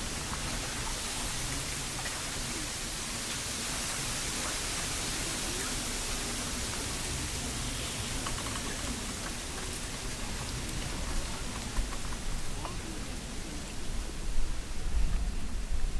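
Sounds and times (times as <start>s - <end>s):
steady outdoor hiss: 0.0s - 15.9s.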